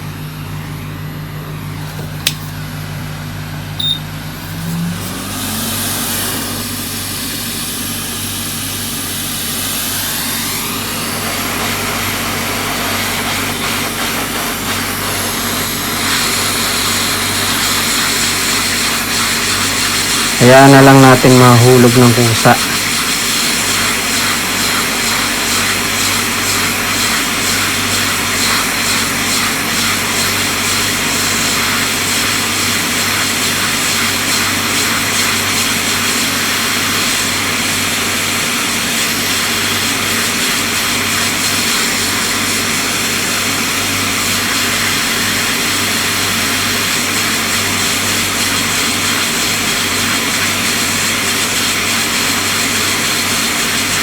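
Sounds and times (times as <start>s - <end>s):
hot air blower hissing: 0.0s - 54.0s.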